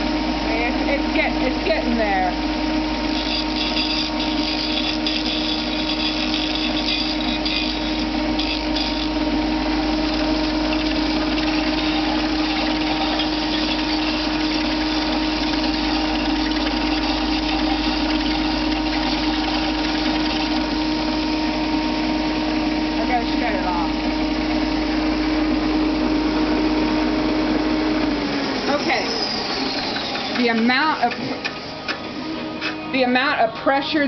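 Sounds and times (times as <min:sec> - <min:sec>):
electric sander motor hum: 0:00.0 - 0:31.5.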